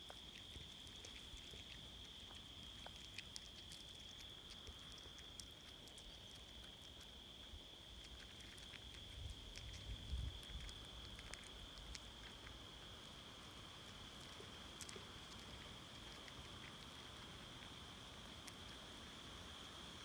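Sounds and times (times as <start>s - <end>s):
chipmunk cracking seeds: 0.0s - 20.0s.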